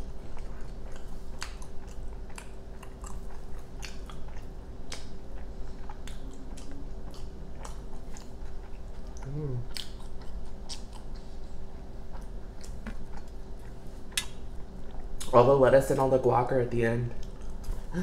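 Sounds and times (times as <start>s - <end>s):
close-miked chewing: 0.0s - 15.4s.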